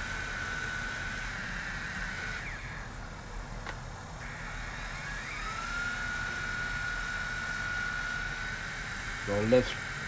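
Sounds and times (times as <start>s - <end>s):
rc helicopter motor whining: 0.0s - 3.1s, 4.2s - 10.0s.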